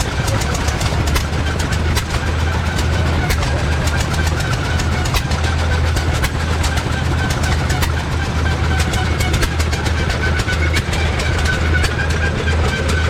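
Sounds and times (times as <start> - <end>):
engine humming: 0.0 - 13.0
fast irregular clicking clatter: 0.0 - 13.0.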